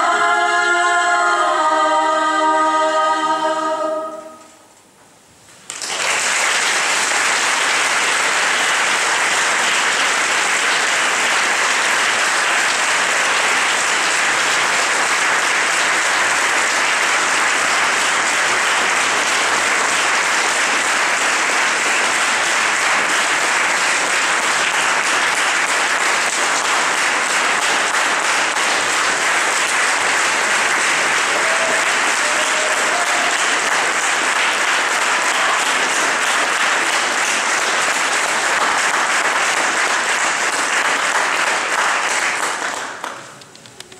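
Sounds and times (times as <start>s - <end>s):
audience applauding: 5.6s - 43.9s.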